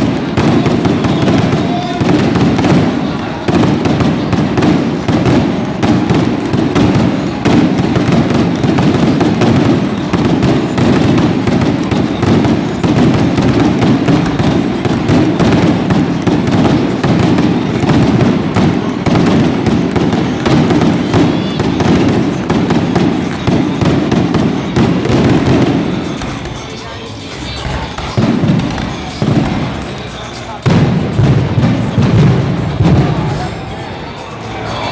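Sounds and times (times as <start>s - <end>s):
fireworks crackling bangs: 0.0s - 34.8s.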